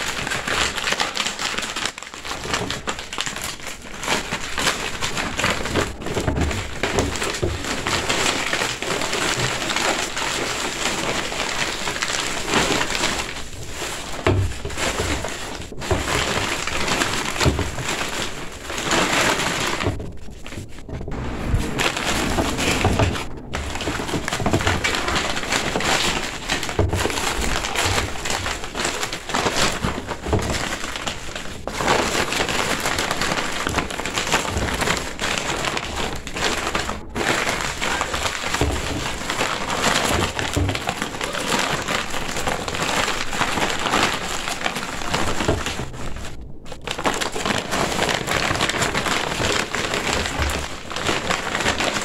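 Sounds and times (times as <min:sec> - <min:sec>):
stiff fabric crinkling and rustling: 0:00.0 - 0:52.0.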